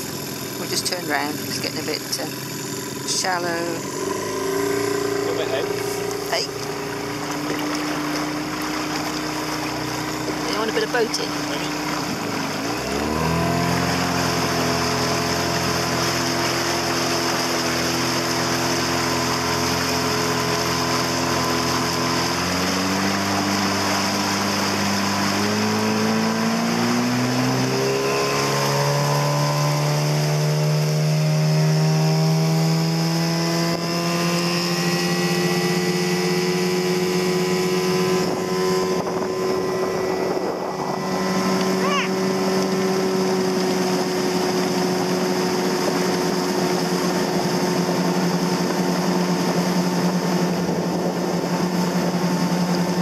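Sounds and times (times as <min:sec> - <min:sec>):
outboard motor running: 0:00.0 - 0:53.0
water and wind rushing: 0:00.0 - 0:53.0.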